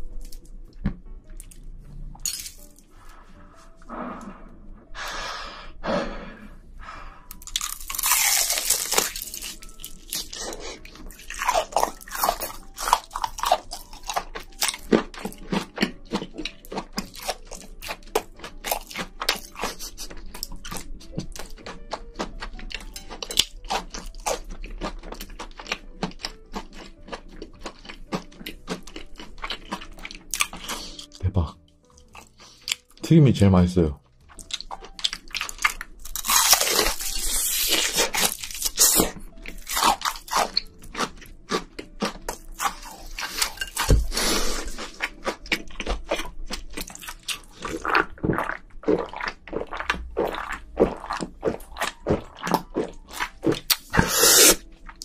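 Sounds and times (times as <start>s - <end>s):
biting and chewing crispy shrimp: 7.2s - 33.0s, 34.2s - 55.0s.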